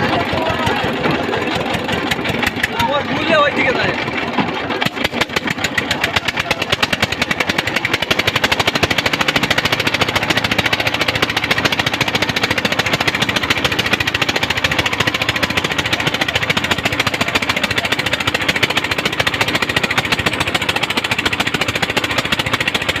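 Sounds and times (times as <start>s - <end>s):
engine chugging: 0.0s - 23.0s.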